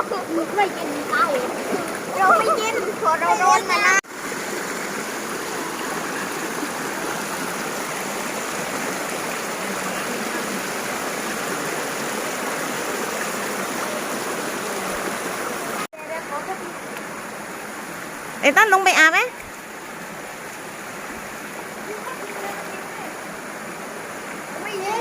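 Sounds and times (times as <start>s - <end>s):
waterfall and stream rushing: 0.0s - 25.0s.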